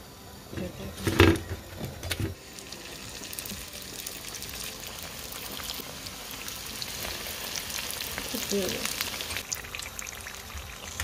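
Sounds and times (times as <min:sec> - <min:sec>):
hot oil sizzling and crackling: 0:00.0 - 0:11.0.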